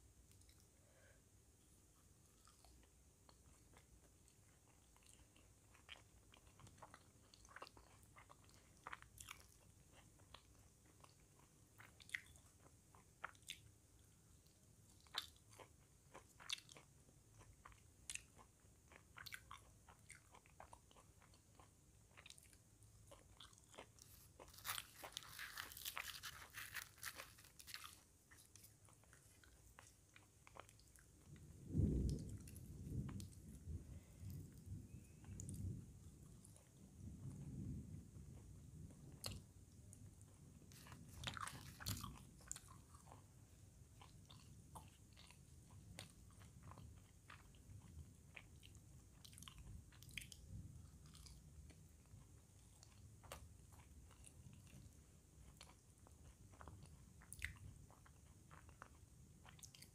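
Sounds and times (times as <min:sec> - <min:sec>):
chewing crispy food: 0:00.2 - 0:01.2, 0:01.8 - 0:59.9.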